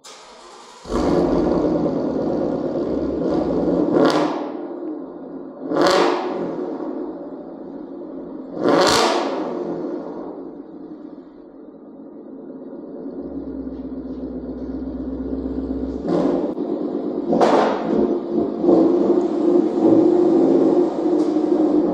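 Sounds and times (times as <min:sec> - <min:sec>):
car engine revving: 0:00.1 - 0:21.9.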